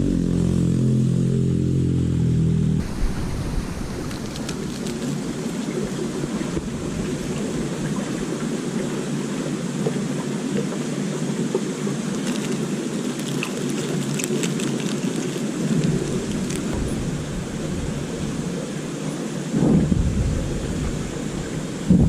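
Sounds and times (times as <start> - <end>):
flowing river water: 2.8 - 22.0.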